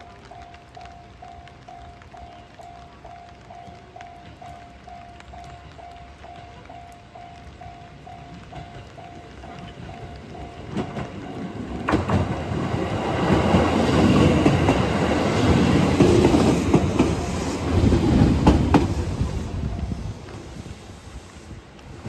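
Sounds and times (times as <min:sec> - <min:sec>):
train rumbling past: 0:00.0 - 0:22.0
wheels clicking over rail joints: 0:00.0 - 0:22.0.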